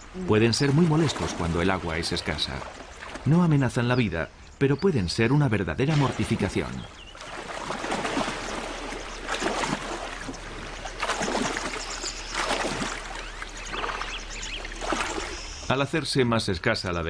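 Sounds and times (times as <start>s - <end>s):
water splashing and sloshing: 0.0s - 16.1s.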